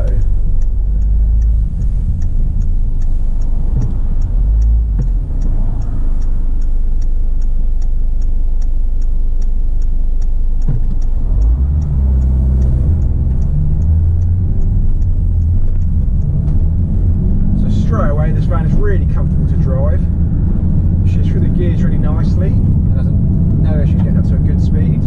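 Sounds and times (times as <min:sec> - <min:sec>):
light regular ticking: 0:00.0 - 0:25.0
van engine and road rumble: 0:00.0 - 0:25.0.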